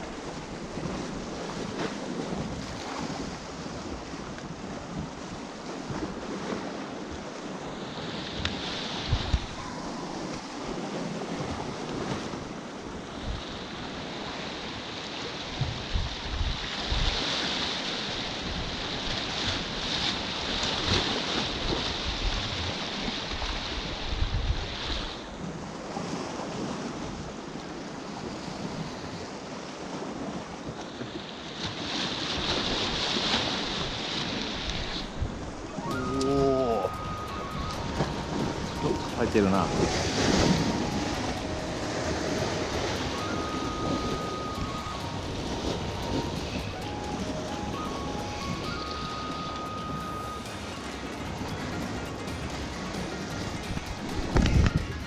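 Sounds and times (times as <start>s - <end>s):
wind buffeting microphone: 0.0s - 14.4s, 15.5s - 17.4s, 18.0s - 27.4s, 32.2s - 55.0s
sea waves on rocky shore: 0.0s - 55.0s.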